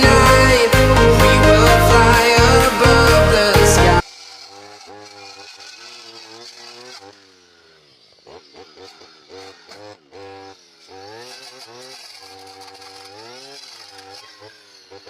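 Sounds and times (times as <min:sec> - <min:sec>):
brush cutter engine revving: 0:00.0 - 0:15.0.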